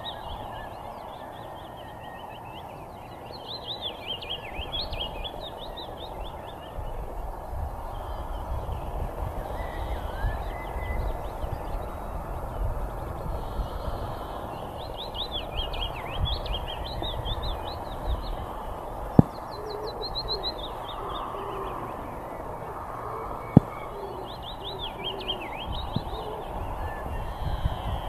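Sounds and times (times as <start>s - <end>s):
leaf warbler singing: 0.0s - 28.0s
steady background hiss: 0.0s - 28.0s.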